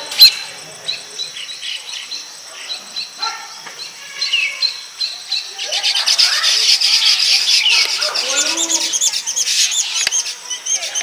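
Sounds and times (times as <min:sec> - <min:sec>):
birds chattering with high chirps: 0:00.0 - 0:11.0.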